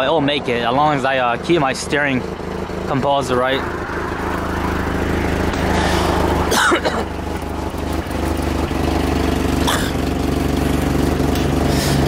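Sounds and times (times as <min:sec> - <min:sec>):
truck engine idling low: 0:00.0 - 0:12.0.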